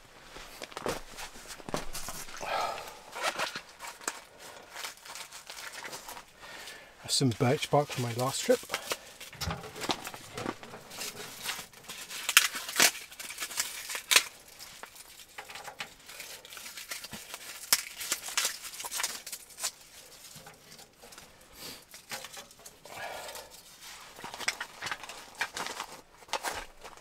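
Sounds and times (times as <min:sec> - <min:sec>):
bark tearing and crackling: 0:00.6 - 0:06.3, 0:08.0 - 0:27.0.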